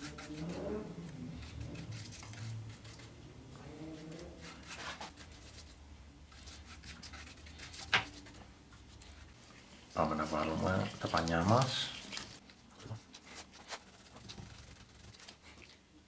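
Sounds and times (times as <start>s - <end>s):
paintbrush scrubbing on fibreglass: 0.0s - 12.4s, 13.0s - 15.3s.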